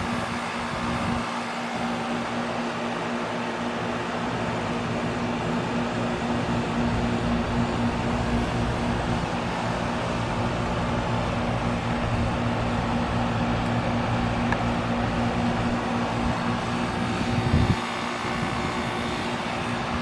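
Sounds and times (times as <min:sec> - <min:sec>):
heat pump compressor humming: 0:00.0 - 0:20.0.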